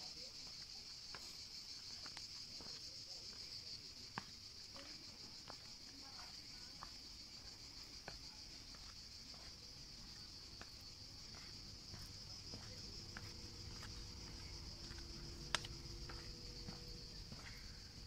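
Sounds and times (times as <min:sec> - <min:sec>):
crickets trilling: 0:00.0 - 0:18.0
footsteps on stone steps: 0:00.0 - 0:18.0.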